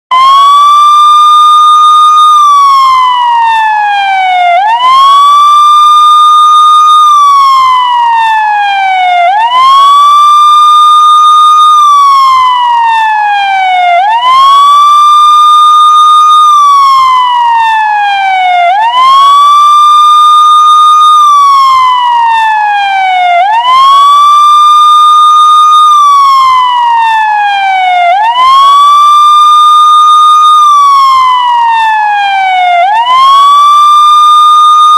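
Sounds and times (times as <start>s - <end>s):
police siren wailing: 0.1s - 34.9s.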